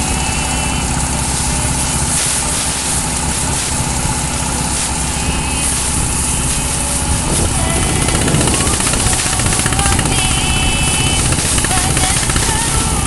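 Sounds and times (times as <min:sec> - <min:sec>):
constant hiss: 0:00.0 - 0:13.0
engine running: 0:00.0 - 0:13.0.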